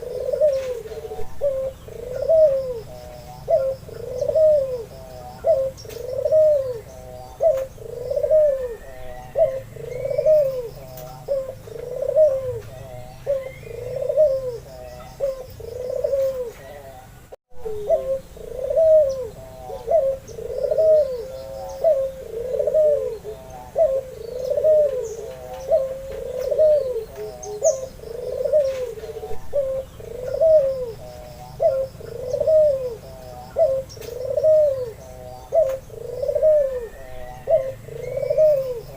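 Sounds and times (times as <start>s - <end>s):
dove cooing: 0.0s - 38.9s
small birds chirping: 0.0s - 38.9s.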